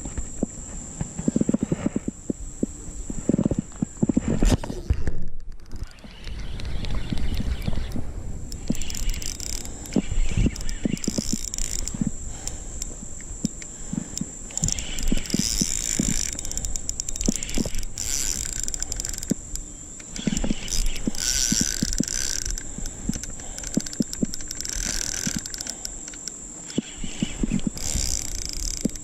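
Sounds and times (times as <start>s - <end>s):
fishing reel whirring and clicking: 4.8s - 29.0s.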